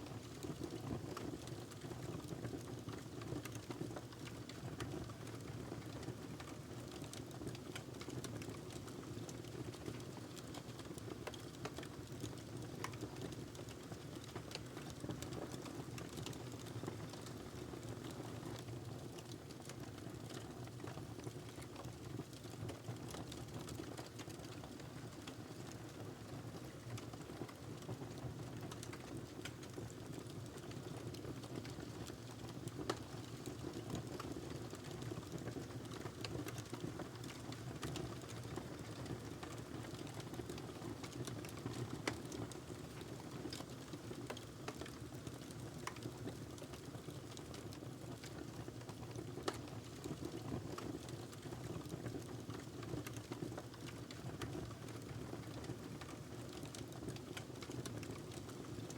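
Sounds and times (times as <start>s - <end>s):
fire crackling in fireplace: 0.0s - 58.9s.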